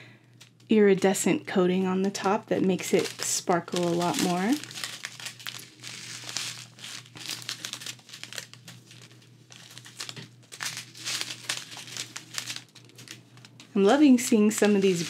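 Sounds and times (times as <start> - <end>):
plastic bags crinkling: 1.5 - 15.0.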